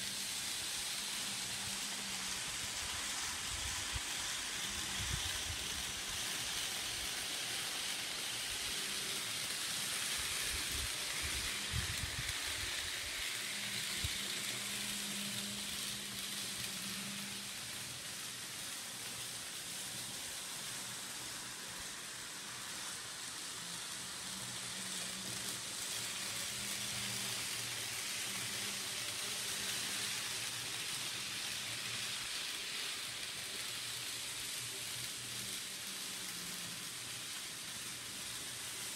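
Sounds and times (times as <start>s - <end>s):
steady hiss: 0.0s - 38.9s.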